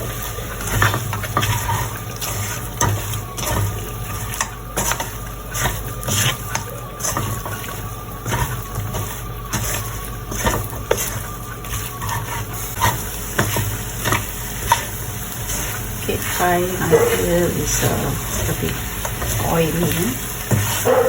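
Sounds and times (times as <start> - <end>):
chicken sizzling in a pan: 0.0 - 21.0
spatula scraping and knocking: 0.5 - 19.4.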